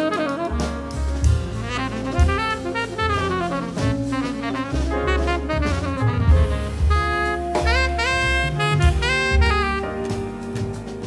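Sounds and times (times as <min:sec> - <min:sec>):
jazz music with saxophone: 0:00.0 - 0:11.0.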